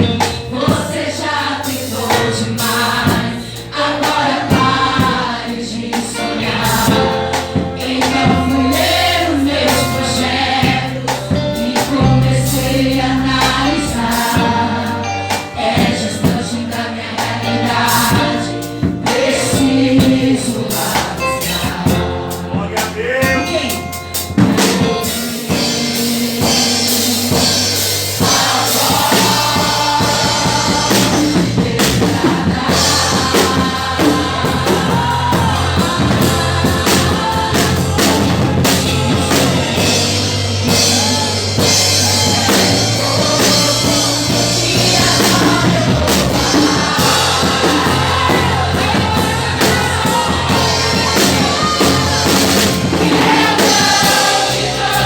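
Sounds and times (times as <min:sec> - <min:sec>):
drum kit: 0:00.0 - 0:55.0
steady bass line: 0:00.0 - 0:55.0.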